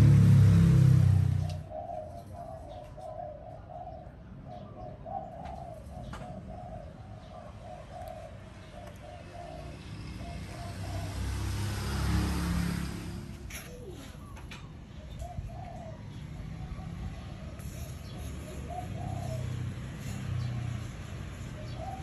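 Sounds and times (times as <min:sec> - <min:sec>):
dove cooing: 0:01.2 - 0:12.1, 0:13.5 - 0:22.0.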